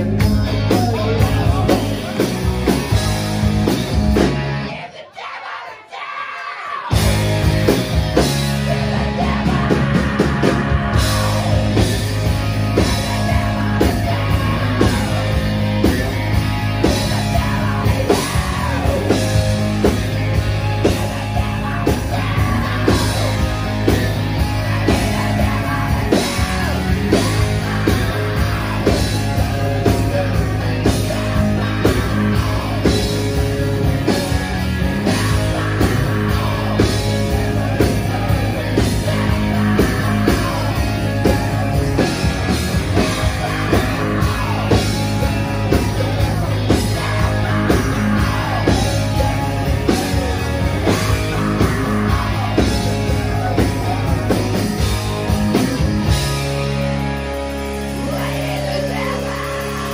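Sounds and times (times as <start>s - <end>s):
man singing: 0.0s - 3.0s, 8.6s - 34.4s, 35.0s - 56.4s, 57.9s - 59.9s
hard rock band playing: 0.0s - 5.1s, 6.7s - 59.9s.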